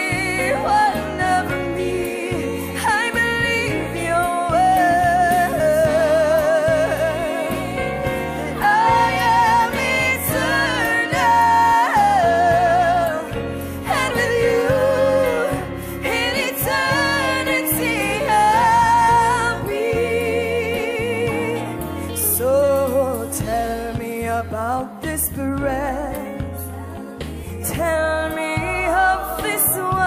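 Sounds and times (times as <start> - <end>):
instrumental backing: 0.0 - 30.0.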